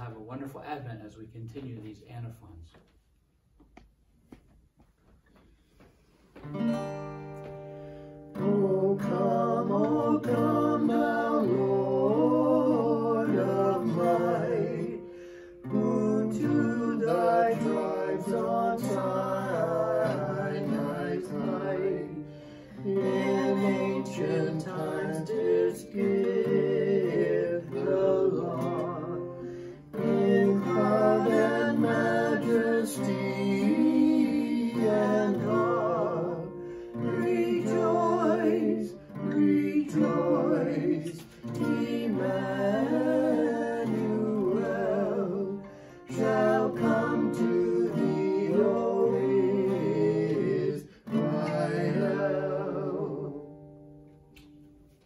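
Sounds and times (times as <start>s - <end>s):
strummed acoustic guitar: 5.8s - 55.0s
man and woman singing a hymn: 8.3s - 53.7s.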